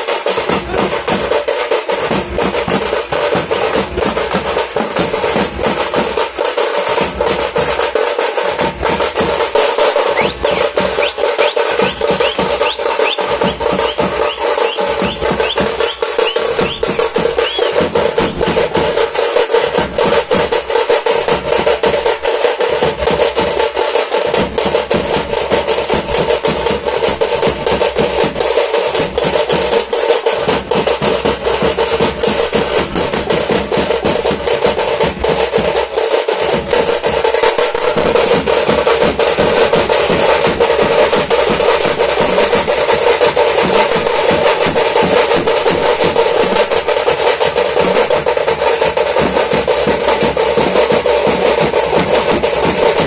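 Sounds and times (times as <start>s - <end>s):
drum ensemble playing fast rhythm: 0.0s - 53.0s
frame drum: 0.0s - 53.0s.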